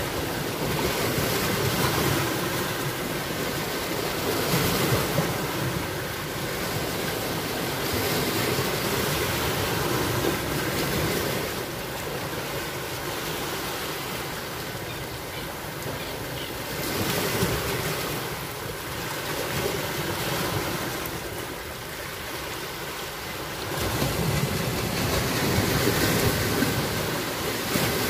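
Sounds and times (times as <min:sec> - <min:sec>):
sea surf washing: 0:00.0 - 0:28.0.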